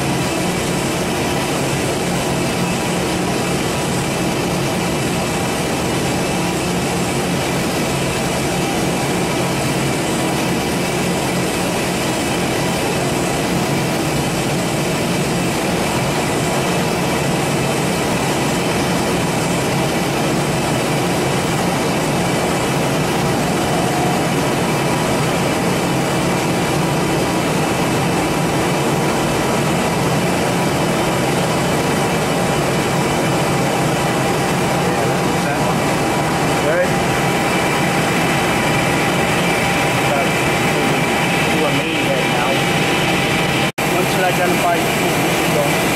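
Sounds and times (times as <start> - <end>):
lathe machine hum: 0.0 - 45.9.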